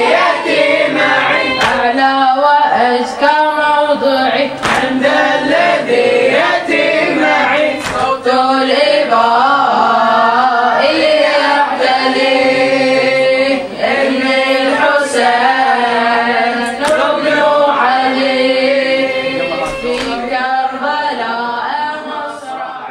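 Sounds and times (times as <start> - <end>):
boy chanting: 0.0 - 22.9.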